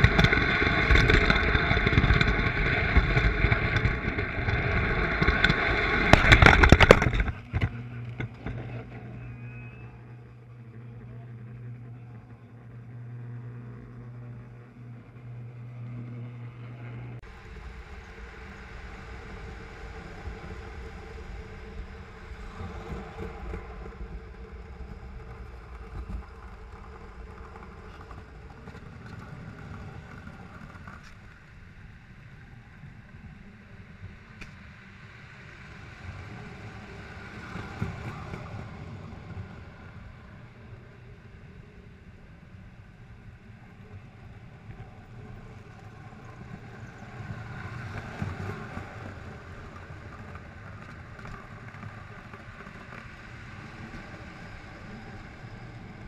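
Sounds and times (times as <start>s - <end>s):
toy trains rumbling on track: 0.0s - 15.4s, 17.1s - 33.6s, 35.2s - 56.0s
low hum: 0.0s - 56.0s.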